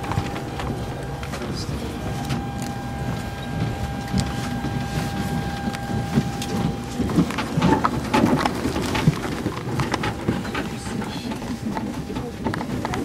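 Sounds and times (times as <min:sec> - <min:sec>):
thin whine: 0:00.0 - 0:12.3
airliner cabin low rumble: 0:00.0 - 0:13.0.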